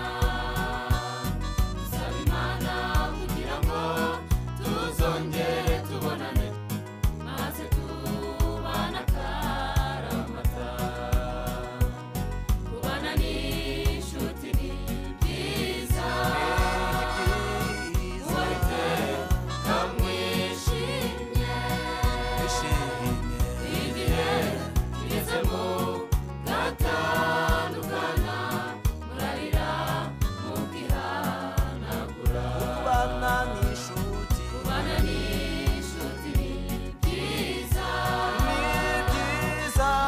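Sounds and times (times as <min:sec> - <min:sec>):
backing track with steady beat: 0:00.0 - 0:40.0
gospel choir singing: 0:00.0 - 0:40.0.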